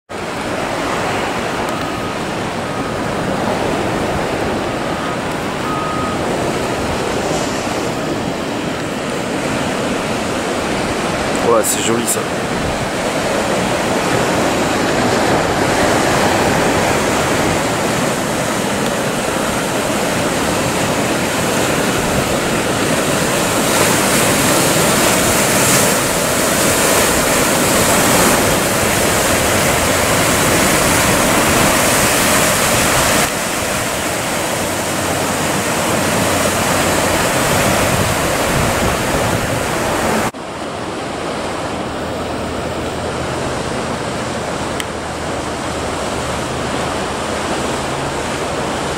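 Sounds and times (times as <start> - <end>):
surf breaking: 0.1 - 48.9.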